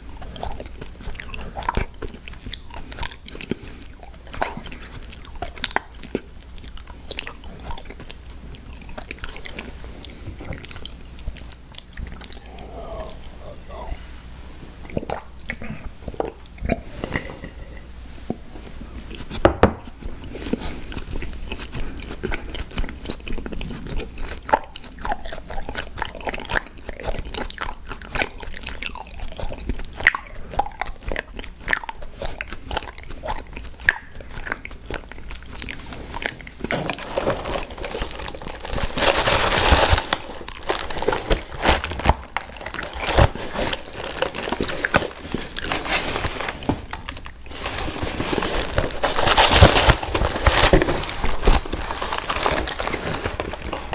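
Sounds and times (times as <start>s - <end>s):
crunching and chewing cookies: 0.0s - 53.9s.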